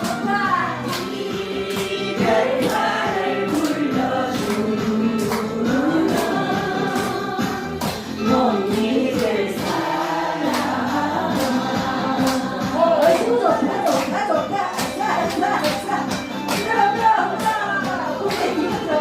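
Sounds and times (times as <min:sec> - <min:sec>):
backing music with a beat: 0:00.0 - 0:19.0
voices singing together: 0:00.0 - 0:19.0.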